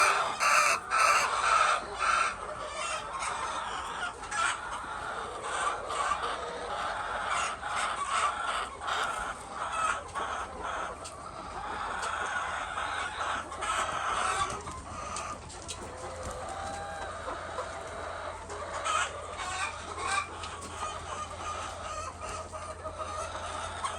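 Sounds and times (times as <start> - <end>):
hens clucking: 0.0 - 23.9.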